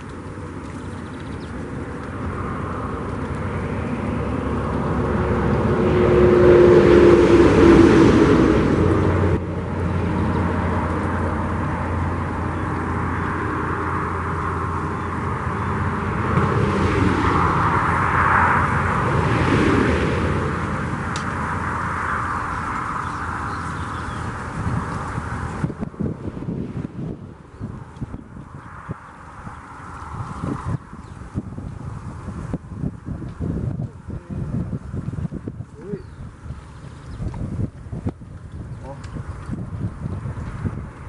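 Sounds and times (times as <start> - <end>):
highway traffic: 0.0 - 41.0
vehicle passing loudly: 0.0 - 41.0.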